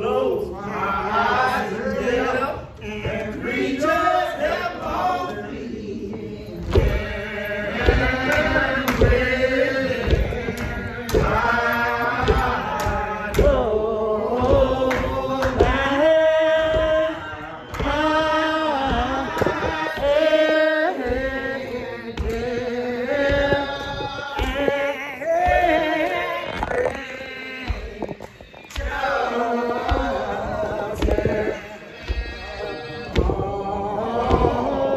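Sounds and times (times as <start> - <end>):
voices singing a hymn: 0.0 - 34.9
steady thumps: 6.0 - 34.9.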